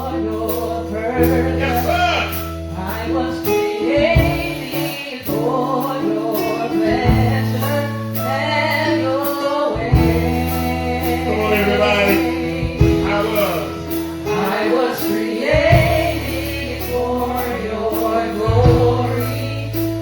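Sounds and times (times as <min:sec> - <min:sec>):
bass: 0:00.0 - 0:20.0
group of singers: 0:00.0 - 0:20.0
keyboard chords: 0:00.0 - 0:20.0
drum beat with cymbals: 0:03.4 - 0:20.0.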